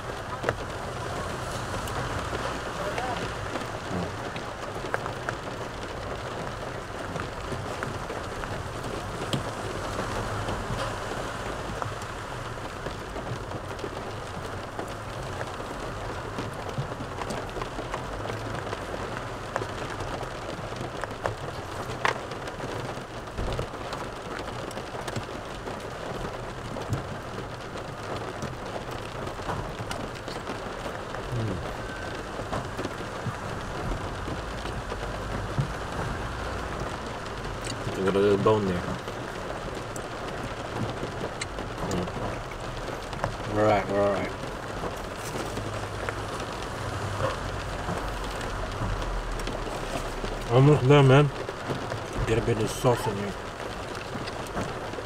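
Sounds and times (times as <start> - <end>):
rain pattering on car roof: 0.0 - 55.0.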